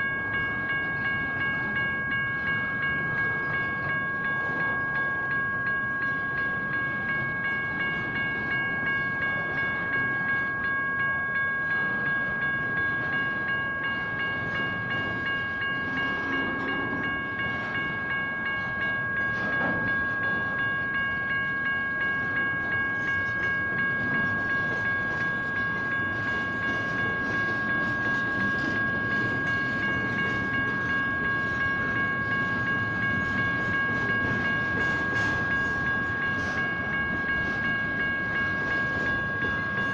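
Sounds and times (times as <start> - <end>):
crossing bells ringing: 0.0 - 39.9
passing train rumble: 0.0 - 39.9.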